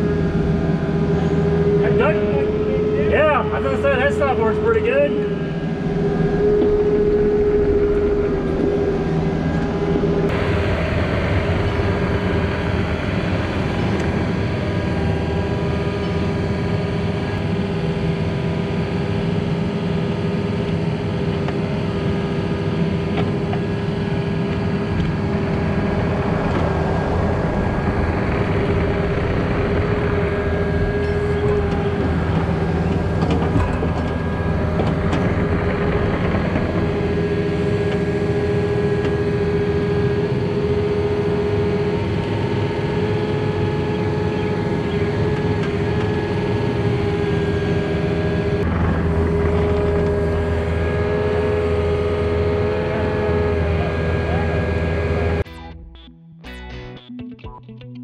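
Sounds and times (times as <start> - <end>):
diesel engine running: 0.0 - 56.1
steady whine: 0.0 - 57.0.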